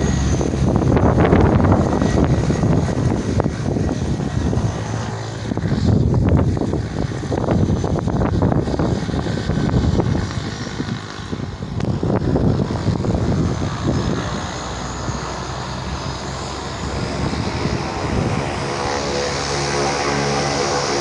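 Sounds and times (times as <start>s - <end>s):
turboprop planes taxiing: 0.0s - 21.0s
wind buffeting microphone: 0.0s - 21.0s.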